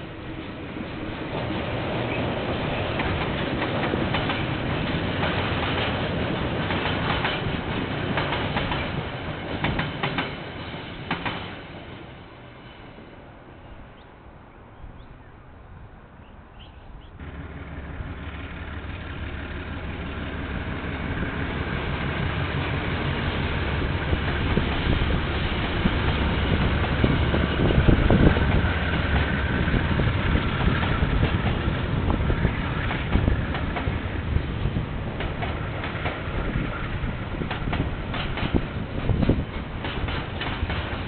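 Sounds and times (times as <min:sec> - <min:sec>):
diesel train passing: 0:00.0 - 0:41.0.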